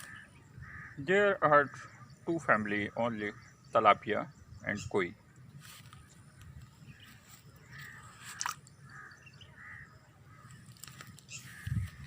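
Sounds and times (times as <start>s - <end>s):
faint harsh bird calls: 0.0s - 12.0s.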